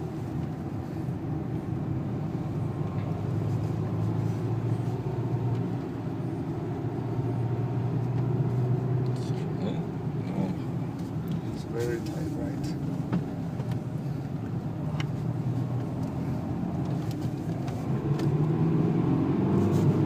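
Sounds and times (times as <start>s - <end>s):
diesel engine droning in cabin: 0.0s - 20.0s.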